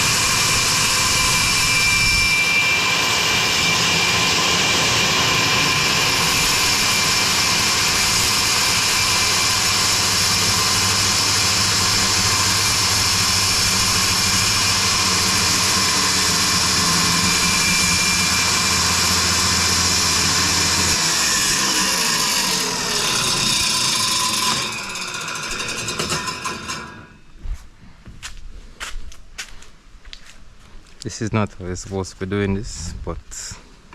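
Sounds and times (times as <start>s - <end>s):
electric saw cutting plywood: 0.0s - 27.2s.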